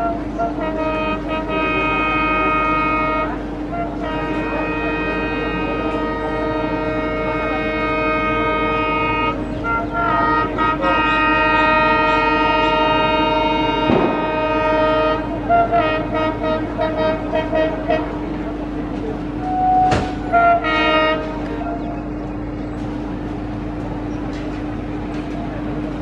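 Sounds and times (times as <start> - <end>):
locomotive air horn: 0.0 - 22.3.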